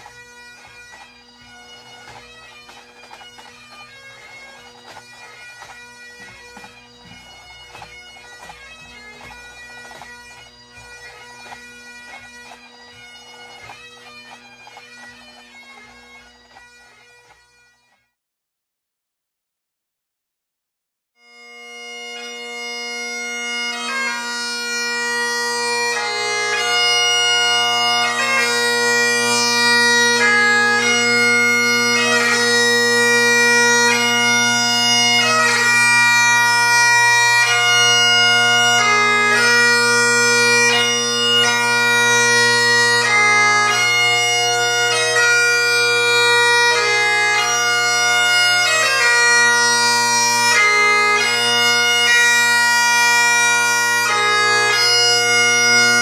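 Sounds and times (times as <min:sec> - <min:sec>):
bagpipe drones: 0:00.0 - 0:18.0, 0:21.2 - 0:56.0
bagpipe chanter melody: 0:00.0 - 0:18.1, 0:21.2 - 0:56.0.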